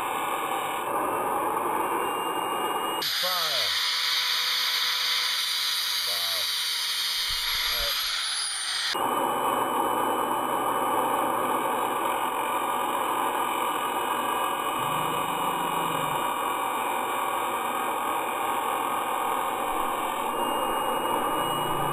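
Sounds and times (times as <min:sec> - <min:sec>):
grinding wheel hissing and whirring: 0:00.0 - 0:21.9.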